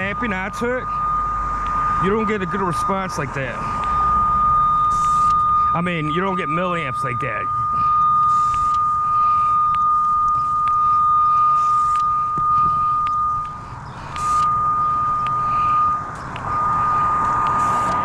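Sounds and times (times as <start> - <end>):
high-pitched cable locator tone: 0.0 - 18.0.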